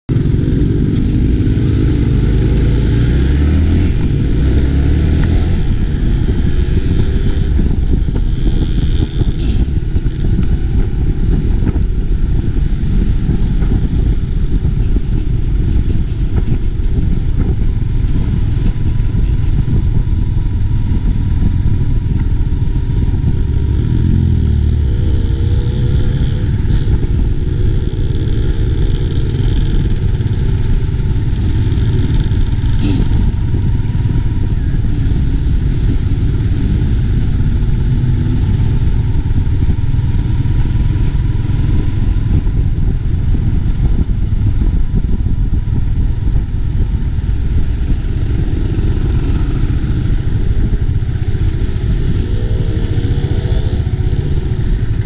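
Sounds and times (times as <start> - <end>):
motorcycle engine accelerating: 0.1 - 55.0
road and wind noise: 0.1 - 55.0.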